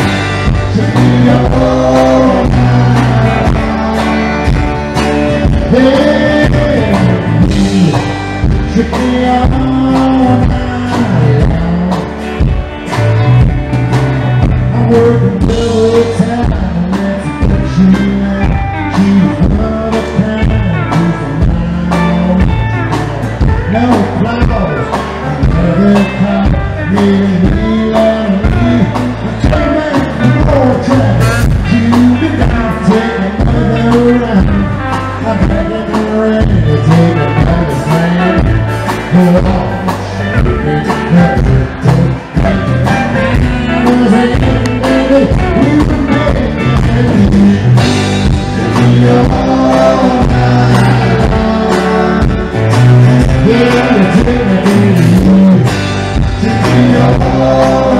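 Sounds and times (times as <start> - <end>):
person singing: 0.0 - 13.5, 14.4 - 57.9
live rock band playing: 0.0 - 57.9.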